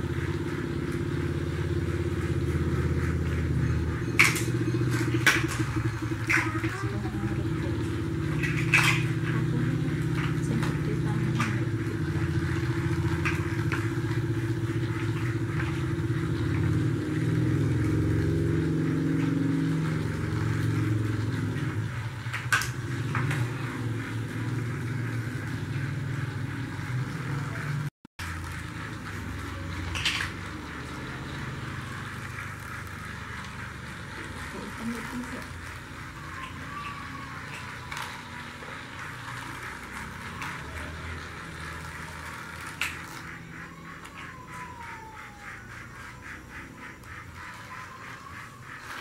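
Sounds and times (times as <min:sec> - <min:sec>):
toy train motor whirring: 0:00.0 - 0:49.0.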